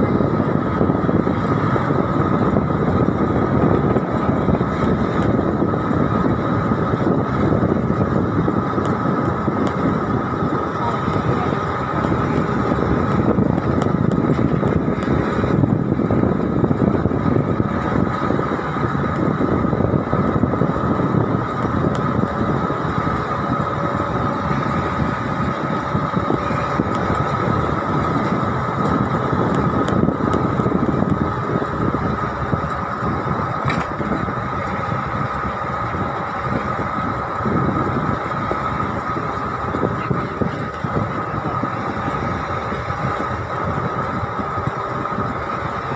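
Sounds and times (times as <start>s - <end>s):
thin whine: 0.0s - 45.9s
vehicle road noise: 0.0s - 45.9s.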